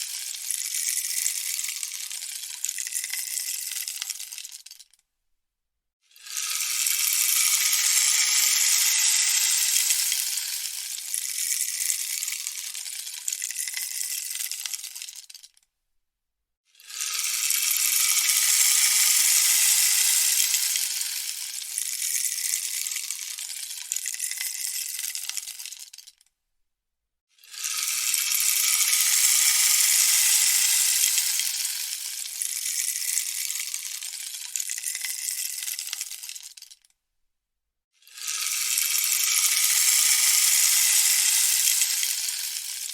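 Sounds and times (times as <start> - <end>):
rainstick pellets rattling: 0.0 - 5.0, 6.2 - 15.6, 16.9 - 26.3, 27.5 - 36.9, 38.1 - 42.9.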